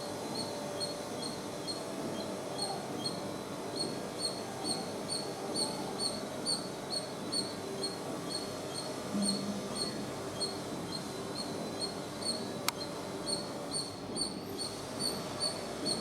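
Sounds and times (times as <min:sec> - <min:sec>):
low background noise: 0:00.0 - 0:16.0
squirrel chirping: 0:00.3 - 0:03.2, 0:03.8 - 0:16.0.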